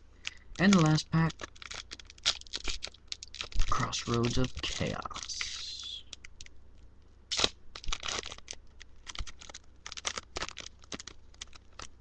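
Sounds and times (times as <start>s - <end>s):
foil pack tearing and crinkling: 0.3s - 6.4s, 7.3s - 12.0s.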